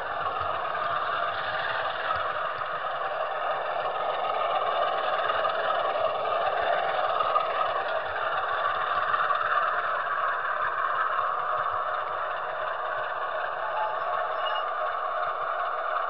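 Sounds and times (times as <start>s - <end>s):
model train wheels and motor whirring: 0.0s - 16.0s
rail joints ticking: 0.0s - 16.0s.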